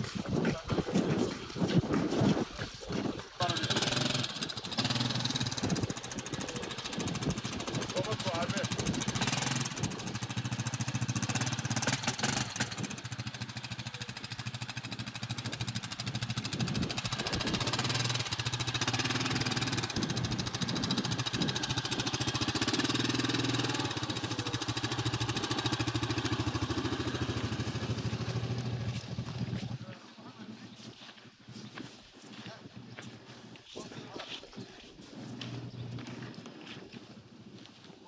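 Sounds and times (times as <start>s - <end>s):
quad bike engine running: 0.0s - 30.0s, 35.1s - 36.8s.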